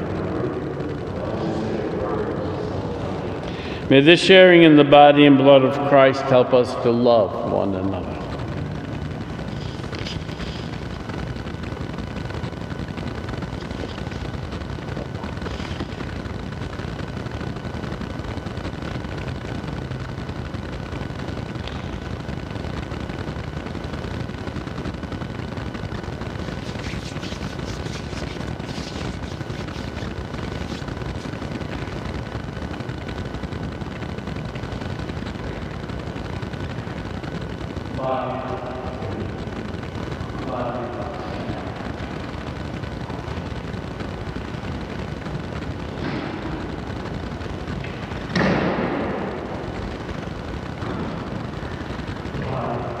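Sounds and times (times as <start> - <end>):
crackling static noise: 0.0 - 53.0.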